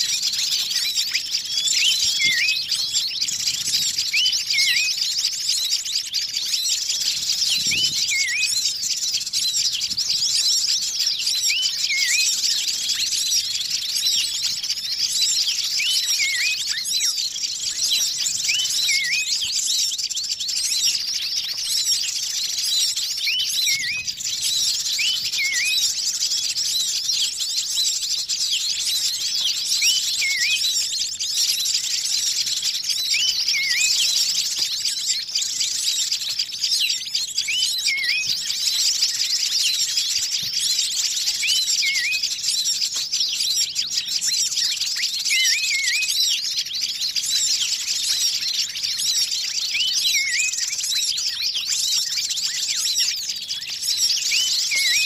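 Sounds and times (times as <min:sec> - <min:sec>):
small birds chirping chorus: 0:00.0 - 0:55.0.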